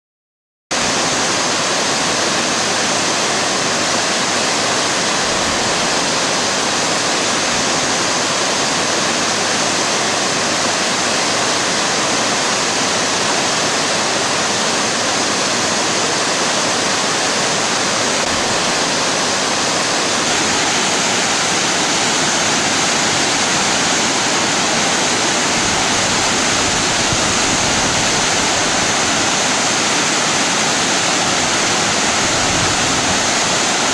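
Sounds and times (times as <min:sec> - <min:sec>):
waterfall rushing and splashing: 0:00.7 - 0:33.9.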